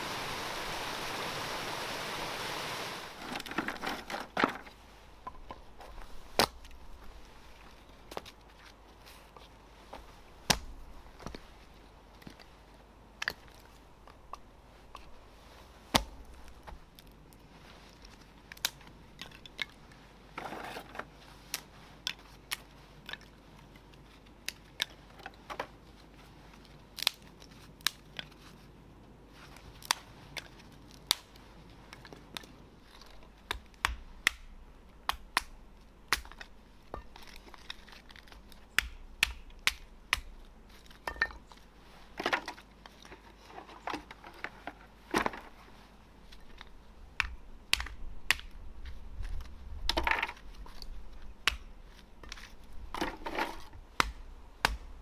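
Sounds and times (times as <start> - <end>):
twigs and leaves snapping underfoot: 3.2 - 28.7, 29.3 - 55.0.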